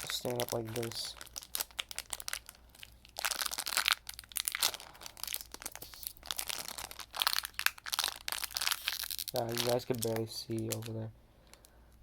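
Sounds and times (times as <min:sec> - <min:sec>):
foil wrapper crinkling: 0:00.0 - 0:11.8.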